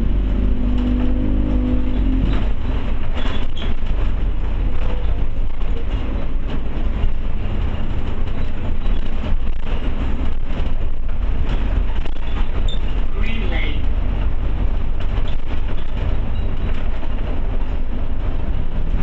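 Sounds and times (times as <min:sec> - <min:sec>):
bus engine and road rumble: 0:00.0 - 0:19.0
rattles and clicks from bus body: 0:00.1 - 0:19.0.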